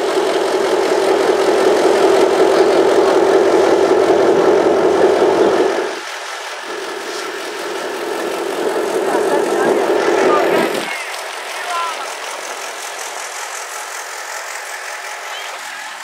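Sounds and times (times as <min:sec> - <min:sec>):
diesel train engine droning: 0:00.0 - 0:16.0.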